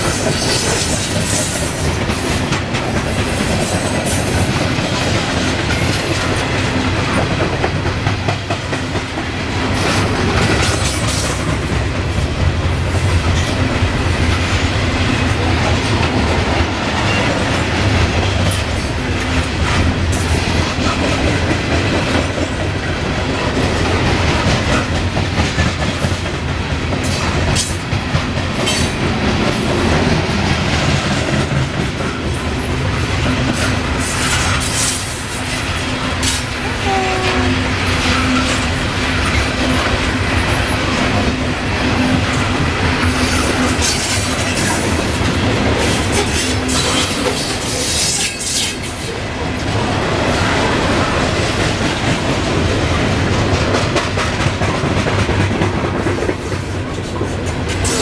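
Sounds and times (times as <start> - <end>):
wheels clickety-clack: 0.0 - 36.7, 37.4 - 58.0
freight train rumbling: 0.0 - 58.0.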